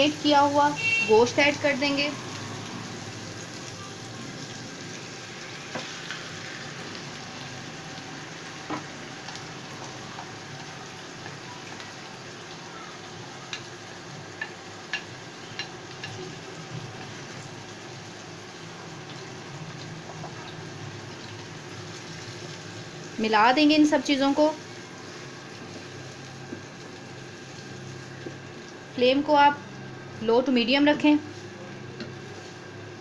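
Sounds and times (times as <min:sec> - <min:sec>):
meat sizzling in frying pan: 0:00.0 - 0:33.0.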